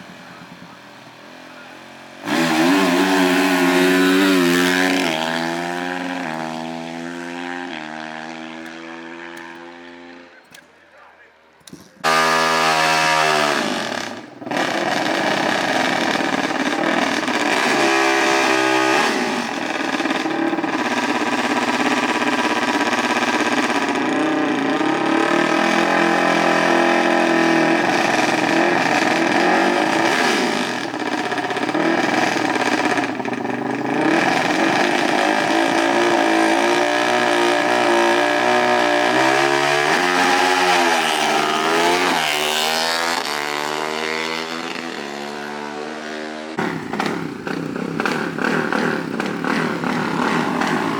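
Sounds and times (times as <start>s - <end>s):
off-road vehicle engine revving: 0.0s - 10.4s, 12.0s - 50.9s.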